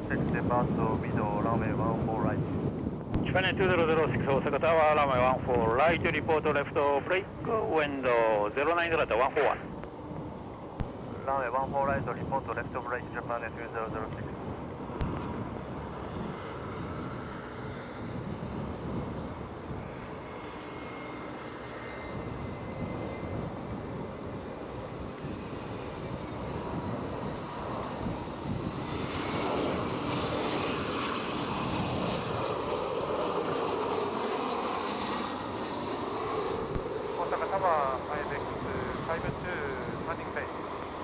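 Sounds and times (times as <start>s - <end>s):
strong wind rumble: 0.0s - 21.4s, 22.0s - 41.0s
jet airliner engines whining: 0.0s - 41.0s.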